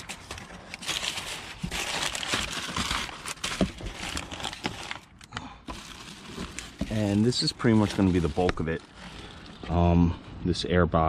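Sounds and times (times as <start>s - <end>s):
paper crumpling and rustling: 0.0s - 9.8s.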